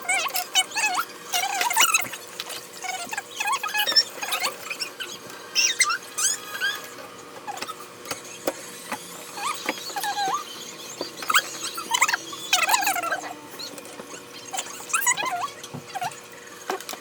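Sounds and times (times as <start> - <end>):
foam and plastic packaging squeaking: 0.2 - 16.8.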